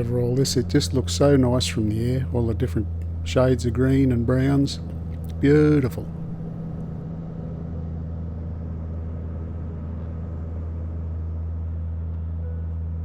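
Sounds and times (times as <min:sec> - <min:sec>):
aircraft engines droning in cabin: 0:00.0 - 0:13.0.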